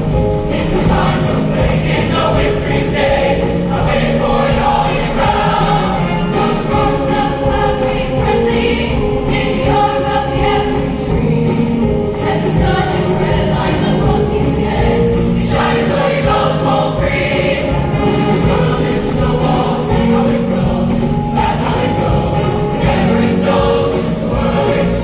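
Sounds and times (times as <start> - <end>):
choir singing: 0.0 - 25.0
instrumental accompaniment: 0.0 - 25.0.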